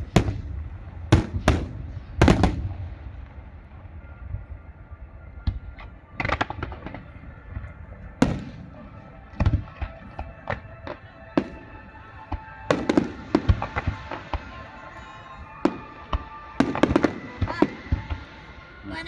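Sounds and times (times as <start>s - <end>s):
faint music: 0.0s - 19.0s
fireworks bangs and crackling: 0.0s - 19.0s.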